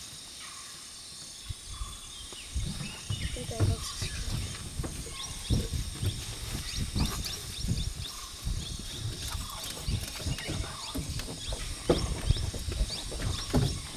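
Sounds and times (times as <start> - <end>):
birds chirping: 0.0 - 13.9
insects droning: 0.0 - 13.9
low thumps and rustles: 2.2 - 13.9.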